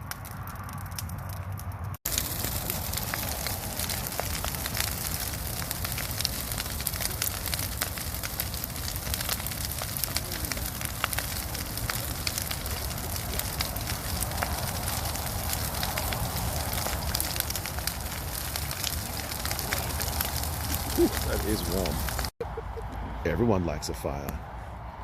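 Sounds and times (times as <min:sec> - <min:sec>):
bonfire crackling and popping: 0:00.0 - 0:22.4.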